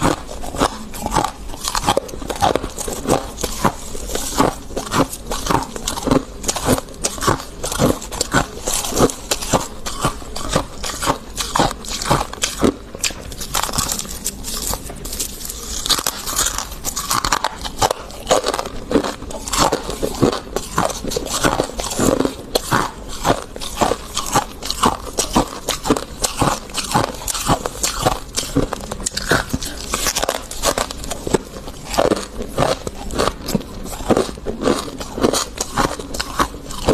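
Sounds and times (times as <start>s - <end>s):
crunching frost: 0.0s - 36.9s.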